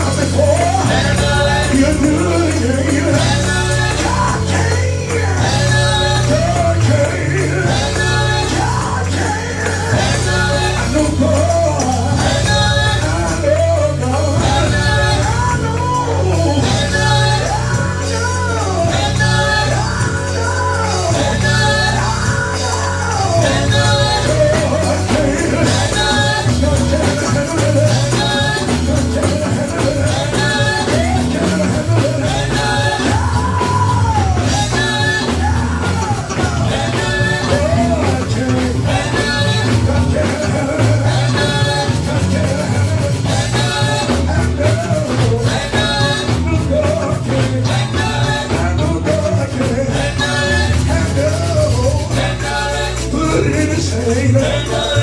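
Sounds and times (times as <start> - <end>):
band accompaniment with bass: 0.0 - 55.0
man singing gospel song: 0.0 - 55.0.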